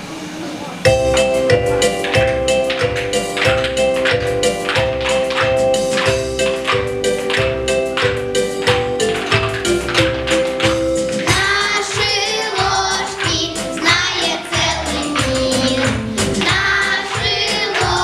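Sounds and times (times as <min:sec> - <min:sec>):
song with singing and beat: 0:00.9 - 0:18.0.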